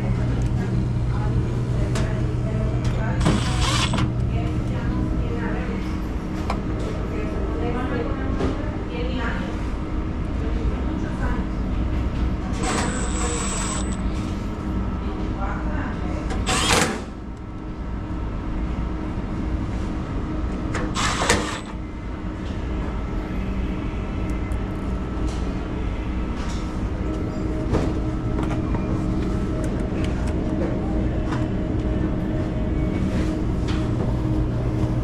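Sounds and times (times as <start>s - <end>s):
refrigeration equipment hum: 0.0s - 35.0s.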